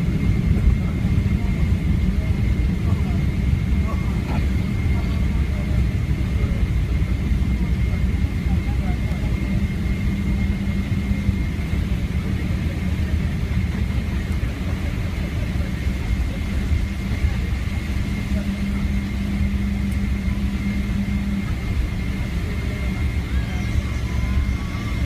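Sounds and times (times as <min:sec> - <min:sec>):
airliner cabin low rumble: 0:00.0 - 0:25.0.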